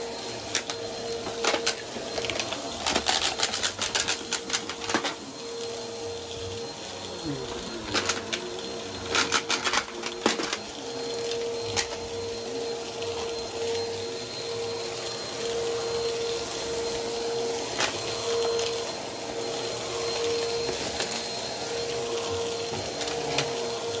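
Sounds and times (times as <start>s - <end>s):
vacuum cleaner running over carpet: 0.0s - 24.0s.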